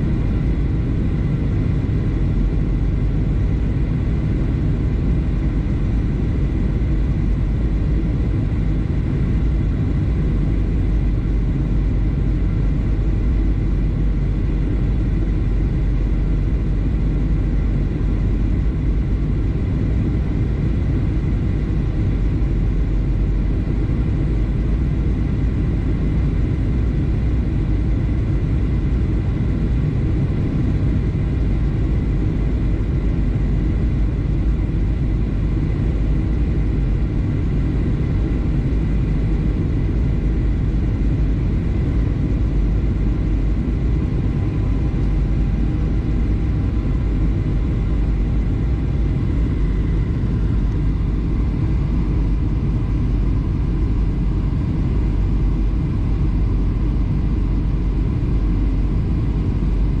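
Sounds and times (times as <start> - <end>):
jet engine rumble and rushing air: 0.0 - 60.0.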